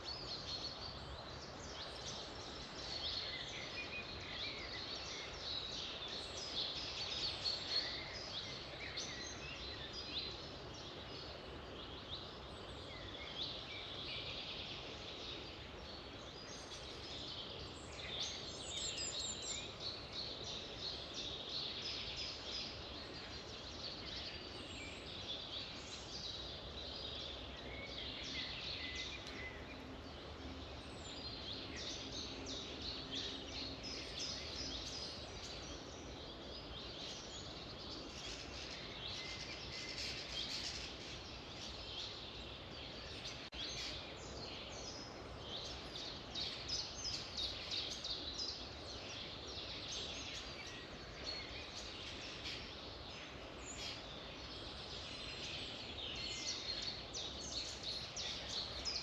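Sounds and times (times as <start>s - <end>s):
faint background hiss: 0.0s - 59.0s
songbirds singing: 0.0s - 59.0s.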